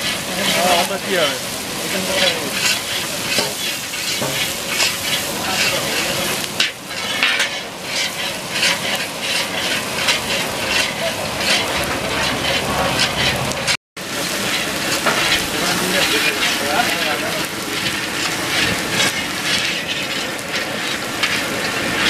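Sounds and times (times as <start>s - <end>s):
metal spatula scraping: 0.0s - 22.0s
rice sizzling in pan: 0.0s - 22.0s.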